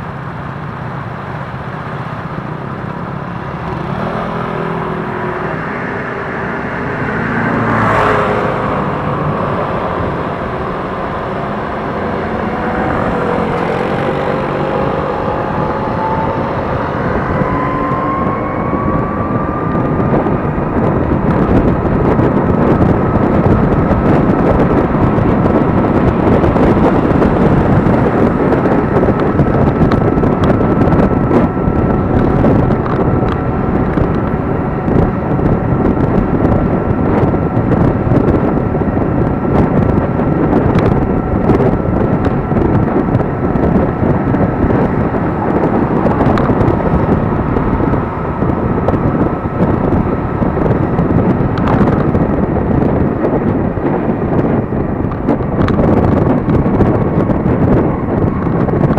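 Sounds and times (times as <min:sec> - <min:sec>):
wind noise on microphone: 0:00.0 - 0:58.9
vehicle passing: 0:02.1 - 0:58.9
electric scooter motor whine: 0:02.5 - 0:58.9.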